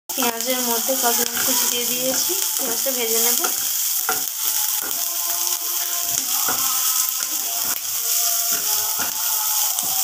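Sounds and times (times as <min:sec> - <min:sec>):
onion sizzling in oil: 0:00.1 - 0:10.0.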